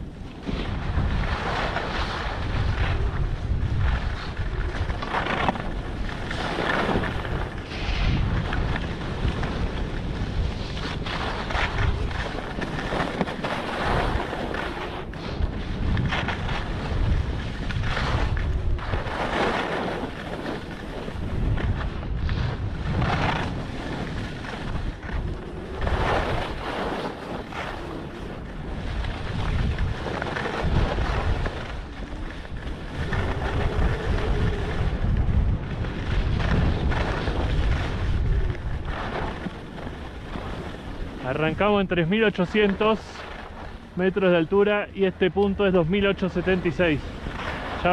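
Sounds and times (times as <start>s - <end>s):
wind rumbling on microphone: 0.0s - 47.9s
skis scraping on packed snow: 0.1s - 47.9s.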